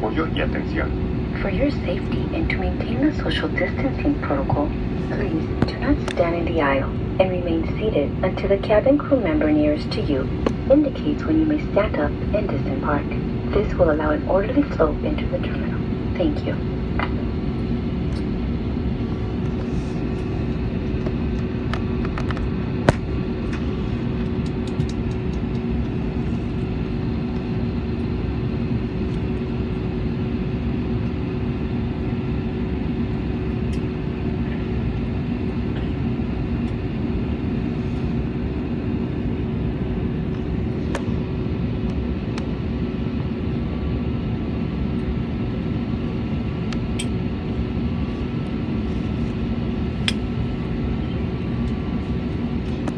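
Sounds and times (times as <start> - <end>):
airliner cabin engine hum: 0.0 - 52.9.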